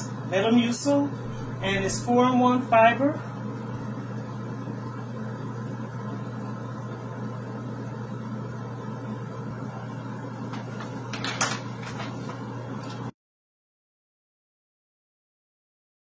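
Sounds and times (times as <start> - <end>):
kitchen appliance electric hum: 0.0 - 13.2.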